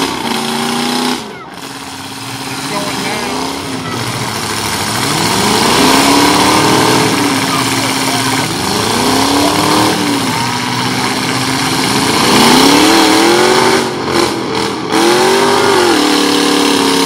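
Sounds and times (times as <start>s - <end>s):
truck engines revving hard: 0.0s - 17.0s.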